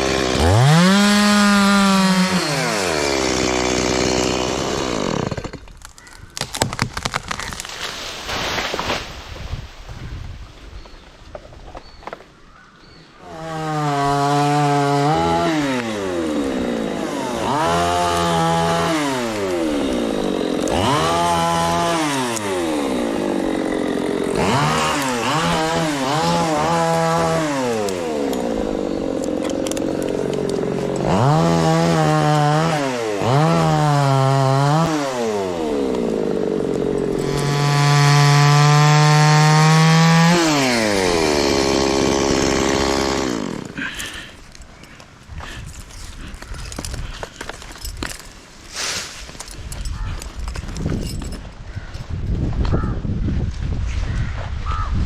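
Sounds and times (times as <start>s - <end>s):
chainsaw cutting wood: 0.0s - 9.3s, 13.2s - 51.5s.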